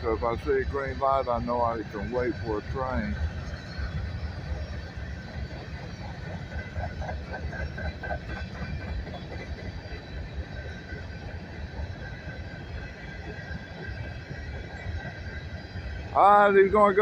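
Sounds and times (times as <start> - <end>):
train cars rumbling on rails: 0.0 - 17.0.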